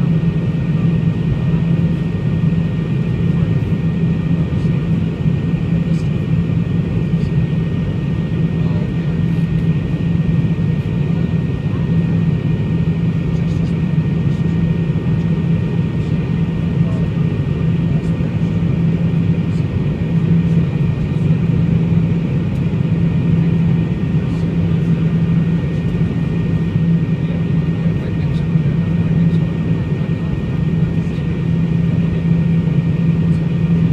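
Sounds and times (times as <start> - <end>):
low jet engine drone: 0.0 - 33.9
rush of airflow in cabin: 0.0 - 33.9
thin steady whine: 0.0 - 33.9.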